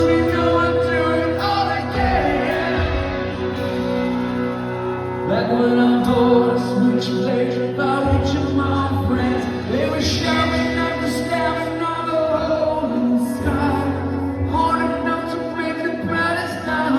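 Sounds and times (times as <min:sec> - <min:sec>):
live rock band playing: 0:00.0 - 0:16.9
person singing: 0:00.0 - 0:16.9.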